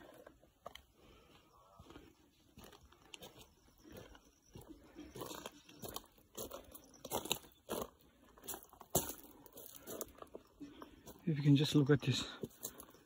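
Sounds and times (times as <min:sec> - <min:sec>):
footsteps on gravel: 0:00.0 - 0:13.0.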